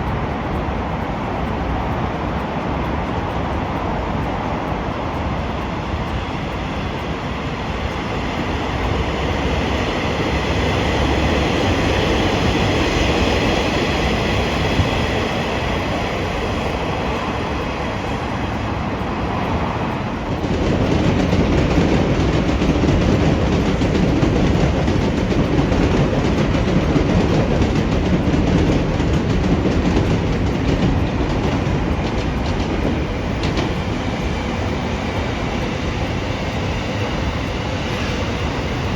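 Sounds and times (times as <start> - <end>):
faint high whine: 0.0 - 38.9
train wheels rumbling on rails: 0.0 - 38.9.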